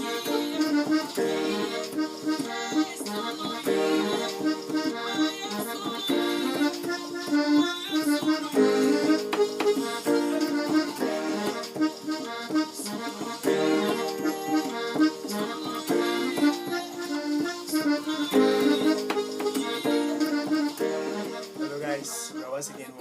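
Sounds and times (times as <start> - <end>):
keyboard playing gospel groove: 0.0 - 23.0.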